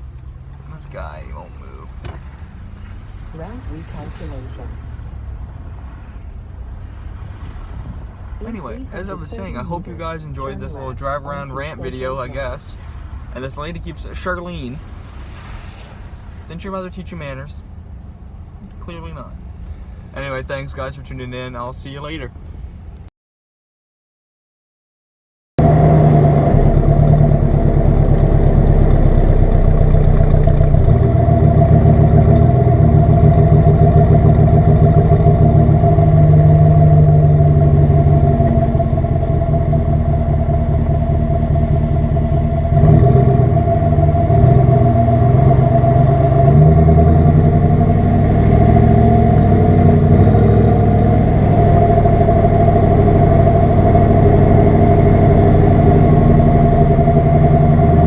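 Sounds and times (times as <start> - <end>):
truck engine exhaust: 0.0 - 20.9, 25.6 - 58.0.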